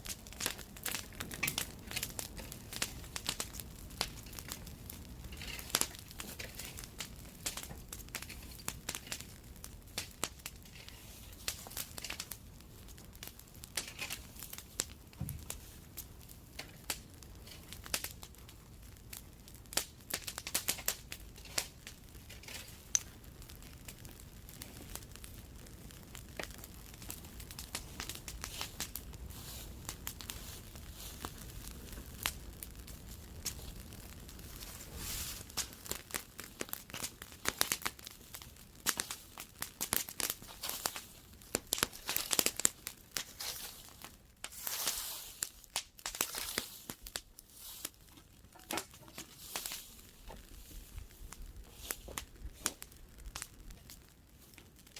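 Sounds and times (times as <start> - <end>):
bonfire crackling and popping: 0.0 - 54.9.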